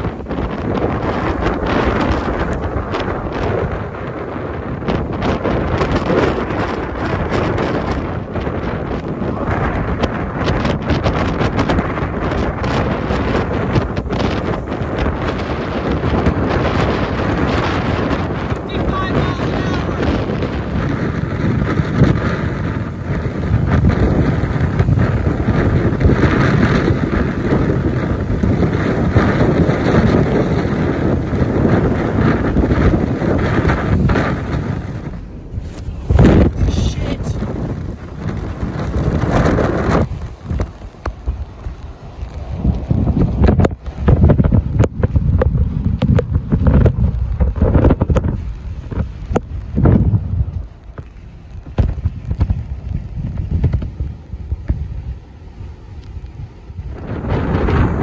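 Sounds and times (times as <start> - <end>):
wind gusts buffeting microphone: 0.0 - 58.0.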